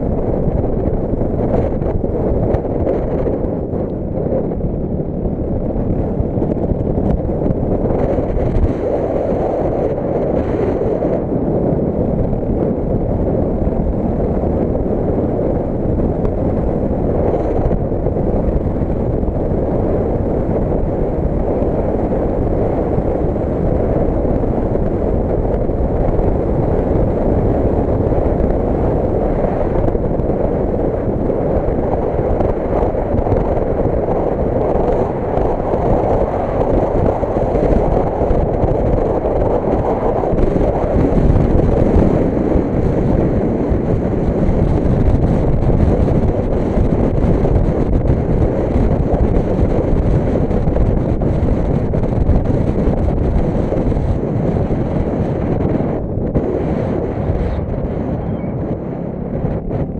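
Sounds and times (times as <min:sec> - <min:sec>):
motor scooter running: 0:00.0 - 0:59.9
wind on microphone: 0:00.0 - 0:59.9.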